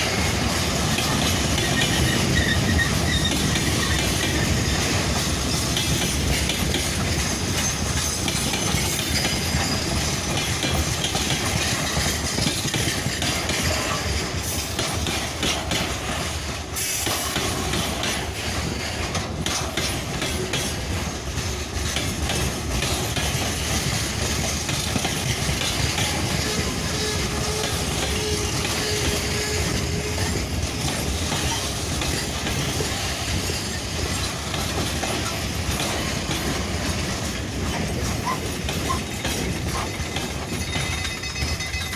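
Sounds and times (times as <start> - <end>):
train wheels clattering: 0.0 - 41.9.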